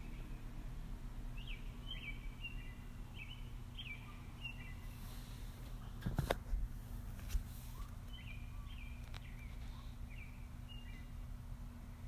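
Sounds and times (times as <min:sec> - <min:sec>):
birds chirping: 0:00.0 - 0:06.0, 0:06.9 - 0:12.0.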